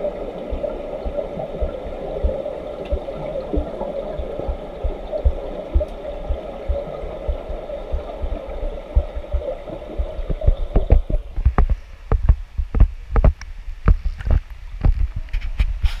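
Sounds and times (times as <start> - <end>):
underwater hum with thumps: 0.0 - 16.0
water splashing and sloshing: 0.0 - 16.0.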